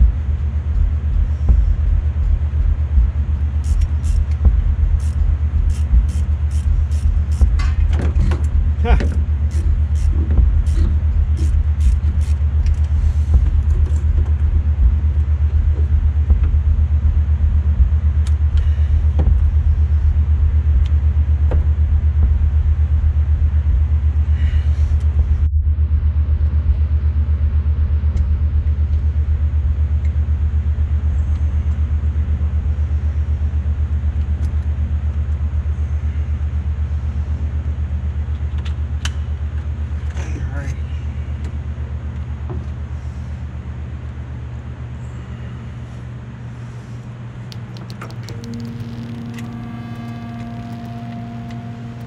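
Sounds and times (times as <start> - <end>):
pulsing low machine rumble: 0.0 - 52.0.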